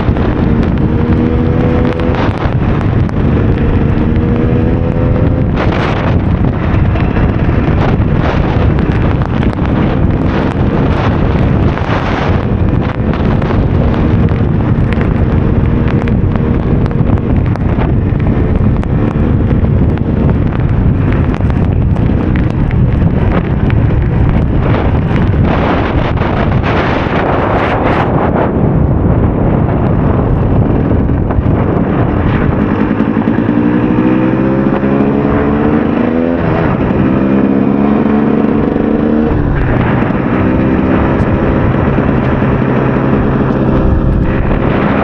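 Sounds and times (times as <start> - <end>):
two-stroke motorcycle engine running: 0.0 - 45.0
wind buffeting microphone: 0.0 - 45.0.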